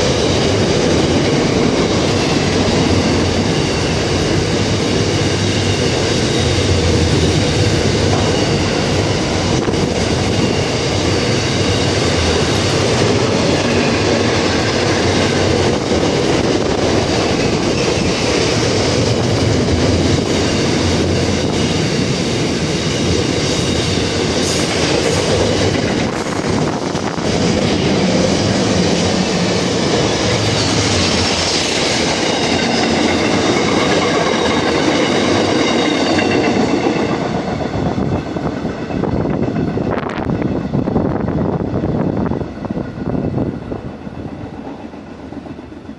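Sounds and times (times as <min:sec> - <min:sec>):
freight train rolling past: 0:00.0 - 0:45.9
steel wheels on rails: 0:00.0 - 0:45.9.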